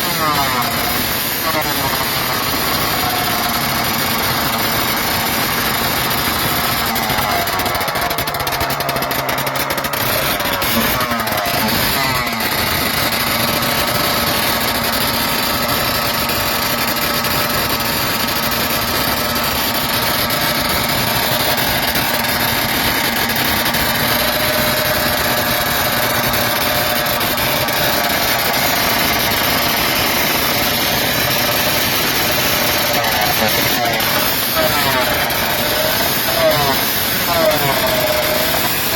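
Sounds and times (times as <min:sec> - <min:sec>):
loud motorcycle engine running: 0:00.0 - 0:38.9.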